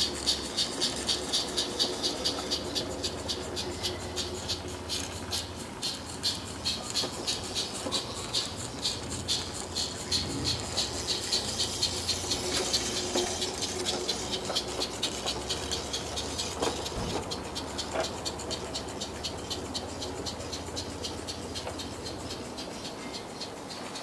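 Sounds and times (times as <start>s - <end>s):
model train locomotive beat: 0.0s - 24.0s.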